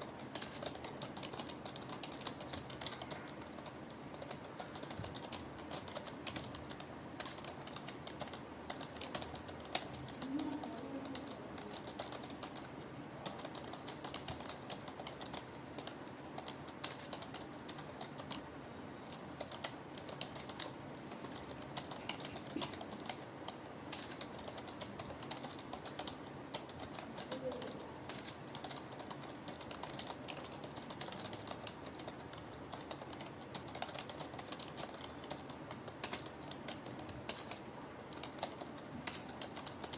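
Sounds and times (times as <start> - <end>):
typing on computer keyboard: 0.0 - 18.5, 19.1 - 39.9.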